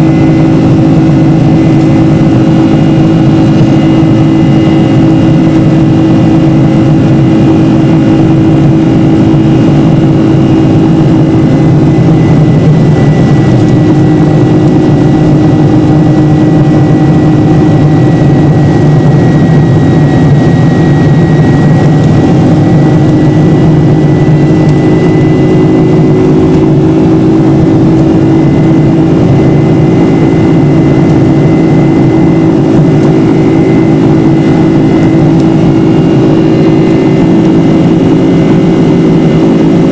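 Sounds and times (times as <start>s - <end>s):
jet engines heard from cabin: 0.0s - 39.9s.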